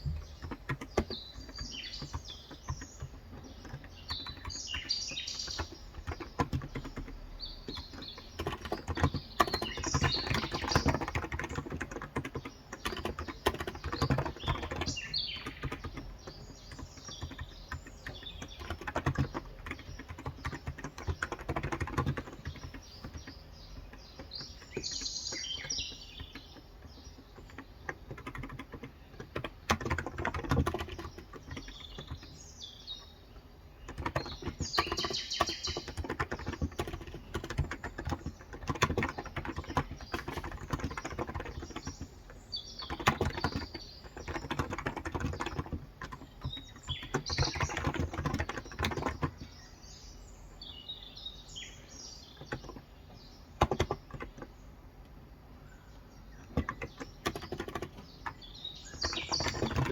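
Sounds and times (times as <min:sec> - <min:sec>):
fast typing on keyboard: 0:00.0 - 0:49.6, 0:52.2 - 0:54.6, 0:56.4 - 0:59.9
birds chirping: 0:00.0 - 0:59.9.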